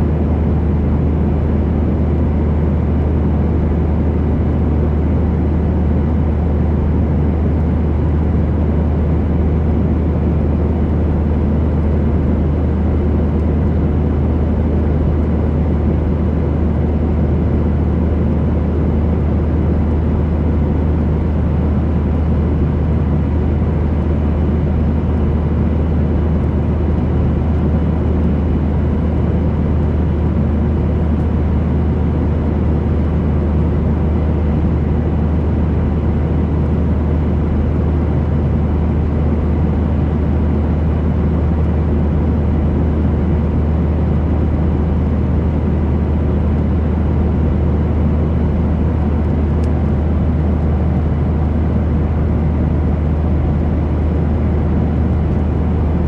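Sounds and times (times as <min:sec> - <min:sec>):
airliner engines droning: 0:00.0 - 0:56.0.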